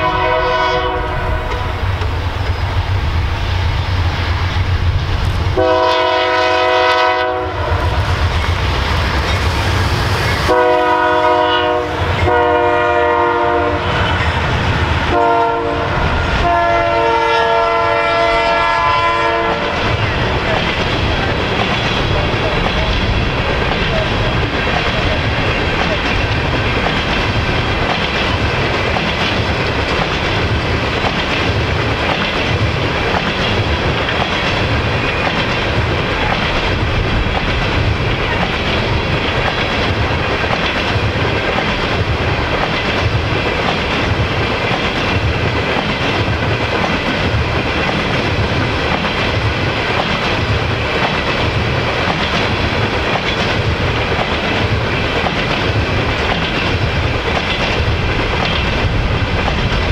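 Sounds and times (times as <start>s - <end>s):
train rumble: 0.0s - 59.9s
train wheels clicking over rail joints: 1.4s - 15.2s, 17.7s - 59.9s.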